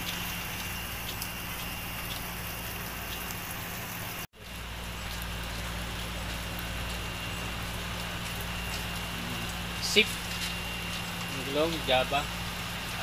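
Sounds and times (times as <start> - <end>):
dripping ticks: 0.0 - 13.0
steady rain hiss: 0.0 - 13.0.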